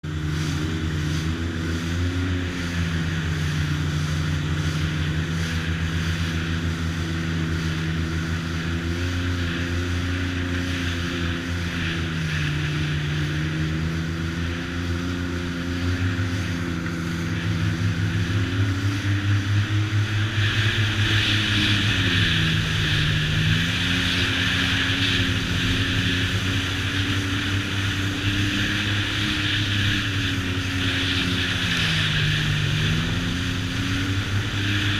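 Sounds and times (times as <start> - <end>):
jet ski engine running: 0.0 - 34.9
wind noise: 0.0 - 34.9.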